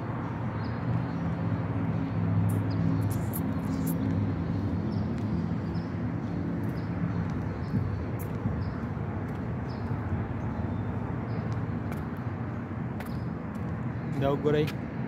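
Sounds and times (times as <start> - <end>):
vehicle engine humming: 0.0 - 14.9
traffic noise: 0.0 - 15.0.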